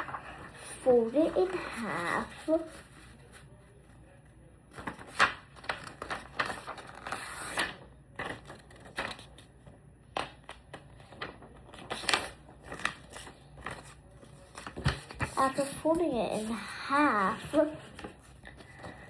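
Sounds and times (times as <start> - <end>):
paper being folded and creased: 0.0 - 3.5, 4.7 - 9.5, 10.1 - 19.0.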